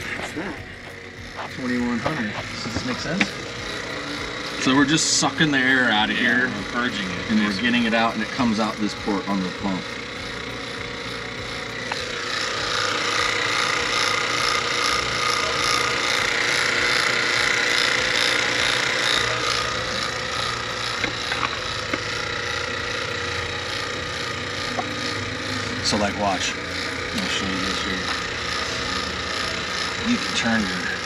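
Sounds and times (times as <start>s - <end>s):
air hissing from pump exhaust: 0.0s - 31.0s
vacuum pump humming: 0.0s - 31.0s.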